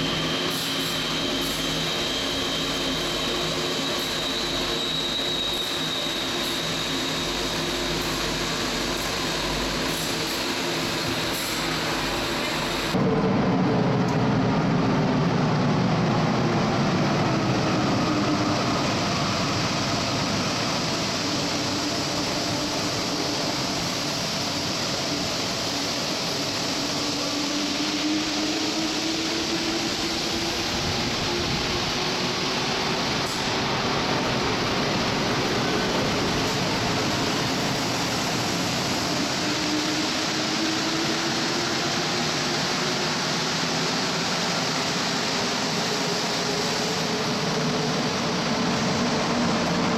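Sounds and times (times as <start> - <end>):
train rumble and hiss: 0.0 - 49.9.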